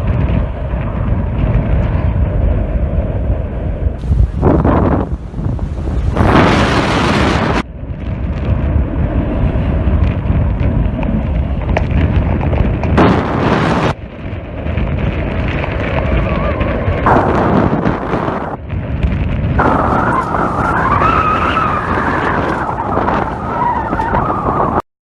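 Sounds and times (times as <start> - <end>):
wind buffeting microphone: 0.0 - 24.8.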